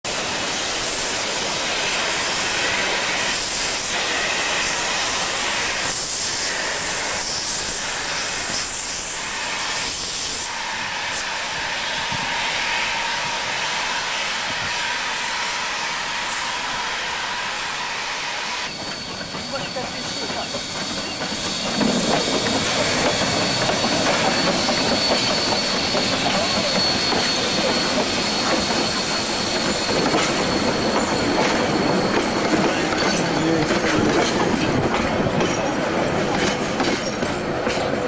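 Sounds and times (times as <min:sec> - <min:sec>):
steam locomotive hissing: 0:00.0 - 0:38.0.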